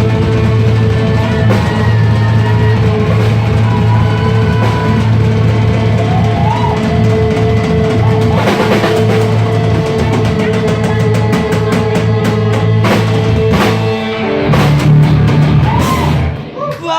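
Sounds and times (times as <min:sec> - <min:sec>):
drum fill: 0:00.0 - 0:16.6
live band playing loud: 0:00.0 - 0:16.9.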